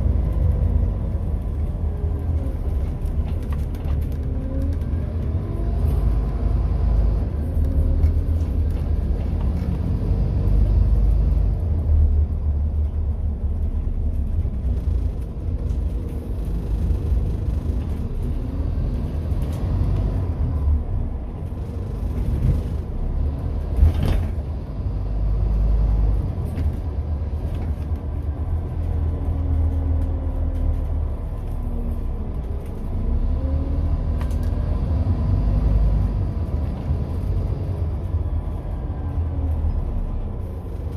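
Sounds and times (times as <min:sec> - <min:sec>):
bus engine rumbling: 0:00.0 - 0:40.9.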